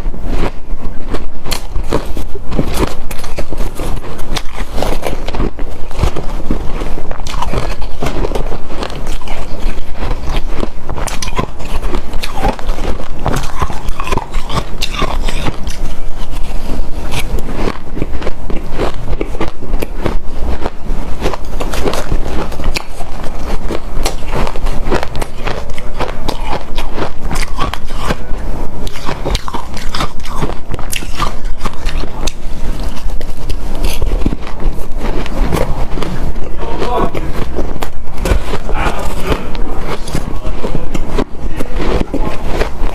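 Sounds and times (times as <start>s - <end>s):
chewing crunchy ice: 0.0s - 42.9s.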